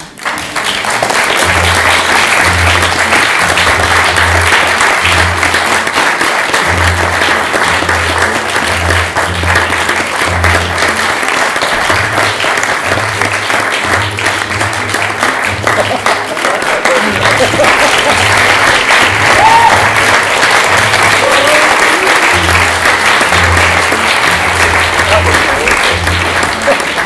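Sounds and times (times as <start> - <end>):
audience clapping: 0.0 - 27.0
music with bass line: 1.3 - 16.0, 17.0 - 27.0.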